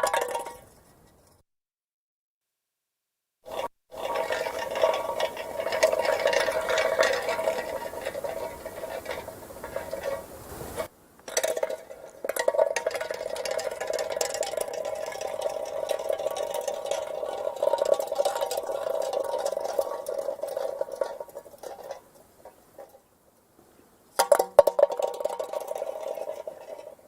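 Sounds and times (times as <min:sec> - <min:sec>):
metal can rolling on asphalt: 0:00.0 - 0:00.9, 0:03.5 - 0:23.1, 0:24.1 - 0:27.0.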